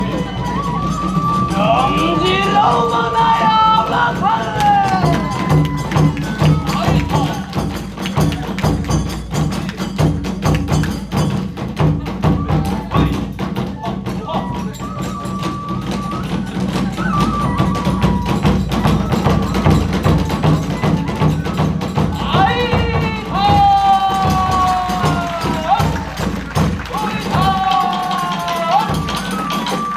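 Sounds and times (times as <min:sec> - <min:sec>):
bamboo flute long notes: 0:00.0 - 0:07.7, 0:12.0 - 0:26.2, 0:26.9 - 0:29.9
hand cymbals clashing: 0:00.0 - 0:13.6, 0:18.1 - 0:29.9
rapid drum beats: 0:00.0 - 0:29.9.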